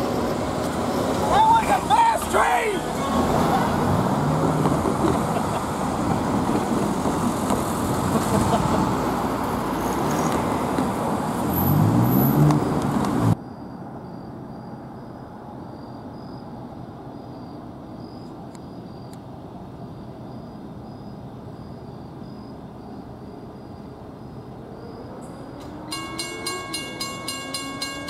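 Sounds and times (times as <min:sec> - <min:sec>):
cars driving over railroad crossing: 0:00.0 - 0:15.7, 0:16.4 - 0:28.0.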